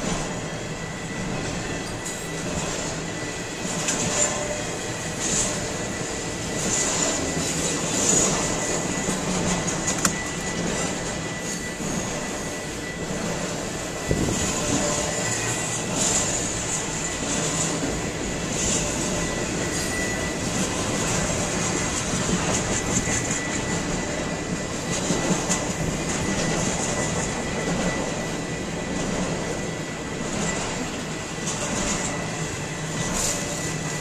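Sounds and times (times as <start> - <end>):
freight train wheels clattering: 0.0 - 34.0.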